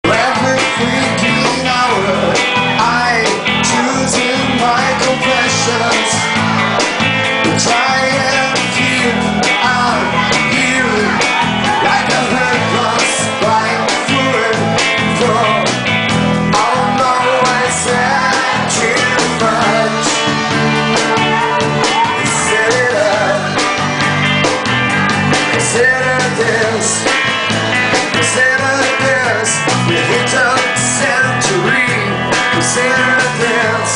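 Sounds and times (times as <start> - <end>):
drums: 0.0 - 33.9
electric guitar: 0.0 - 33.9
person singing: 0.0 - 33.9.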